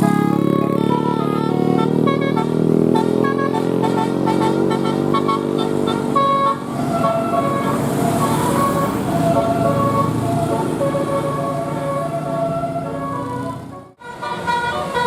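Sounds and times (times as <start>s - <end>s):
multi-tone air horn tune: 0.0s - 15.0s
vehicle noise: 0.0s - 15.0s.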